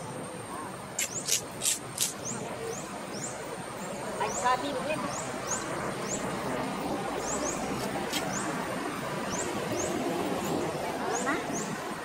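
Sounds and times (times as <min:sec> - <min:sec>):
outdoor ambience: 0:00.0 - 0:12.0
small birds chirping: 0:00.6 - 0:12.0.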